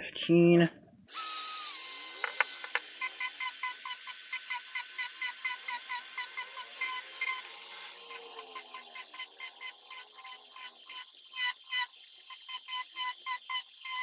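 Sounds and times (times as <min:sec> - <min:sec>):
rotary tool motor whine: 0:01.1 - 0:14.0.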